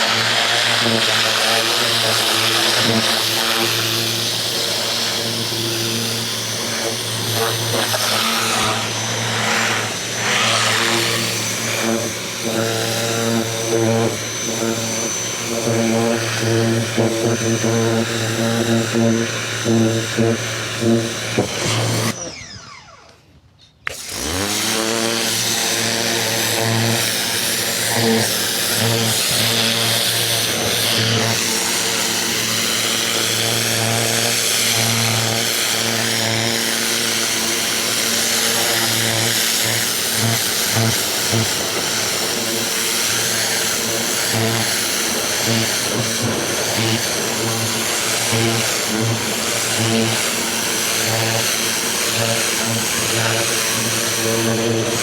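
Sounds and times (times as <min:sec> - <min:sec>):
pressure washer motor humming: 0:00.0 - 0:23.2, 0:23.9 - 0:55.0.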